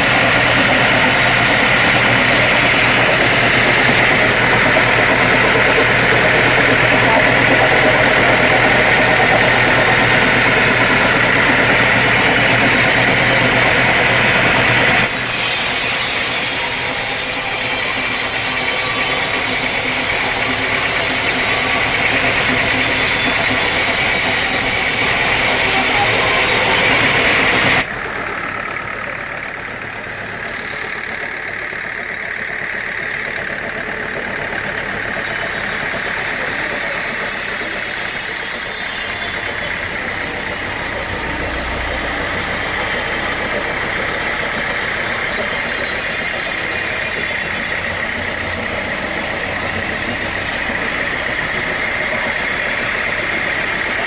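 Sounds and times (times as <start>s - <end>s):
hiss of sawing: 0.0s - 27.8s, 34.8s - 51.2s
sawmill engine hum: 0.0s - 54.0s.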